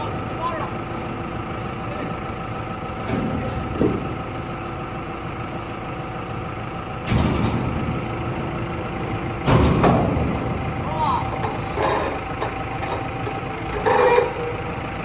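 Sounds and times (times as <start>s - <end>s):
heavy vehicle engine idling: 0.0s - 15.0s.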